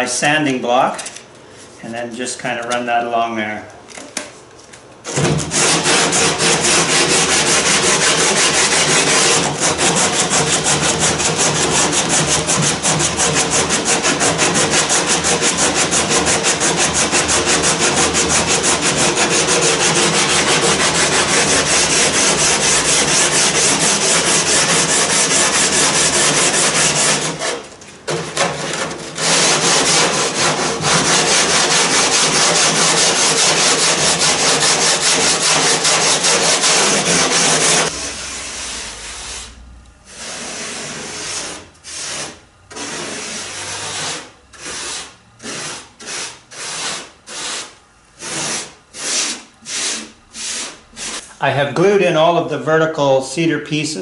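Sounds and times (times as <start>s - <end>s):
sandpaper rubbing on wood: 5.1s - 51.2s.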